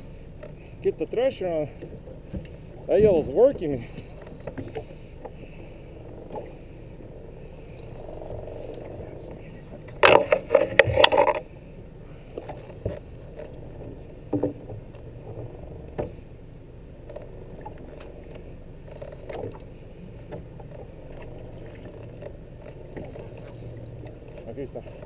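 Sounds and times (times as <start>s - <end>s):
boat low hum: 0.0s - 25.0s.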